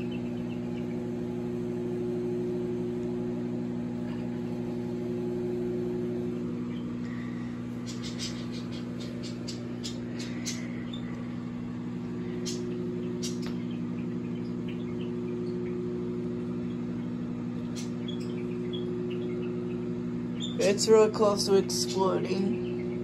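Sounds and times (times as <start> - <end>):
microwave oven hum: 0.0 - 23.0.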